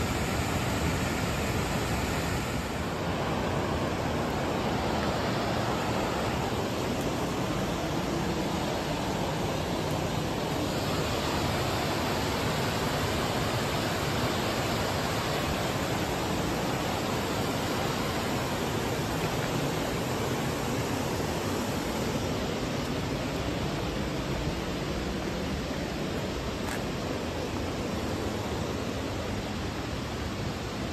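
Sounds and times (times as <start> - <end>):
river water rushing over a weir: 0.0 - 30.9.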